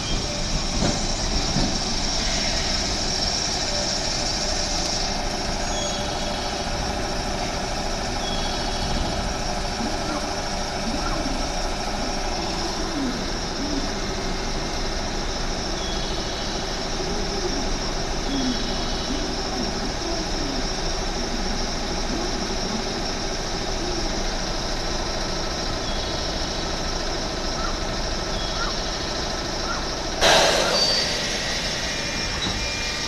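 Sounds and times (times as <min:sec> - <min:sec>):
electric train equipment humming: 0:00.0 - 0:33.0.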